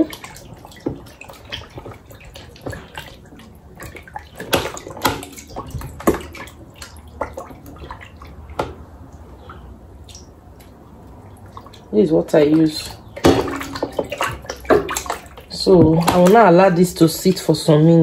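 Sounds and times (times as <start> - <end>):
splashes and knocks: 0.0 - 10.8, 11.4 - 18.0
water sloshing in a bowl: 0.0 - 18.0.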